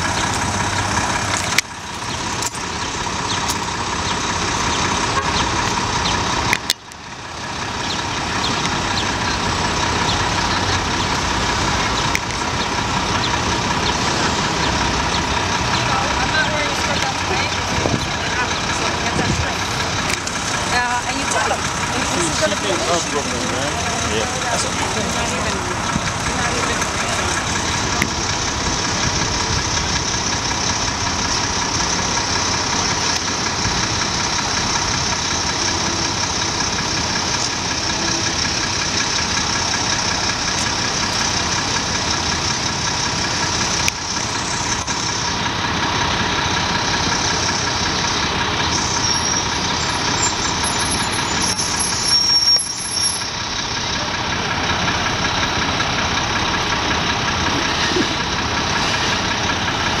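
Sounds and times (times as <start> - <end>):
diesel truck engine idling: 0.0 - 60.0
street traffic: 0.0 - 60.0.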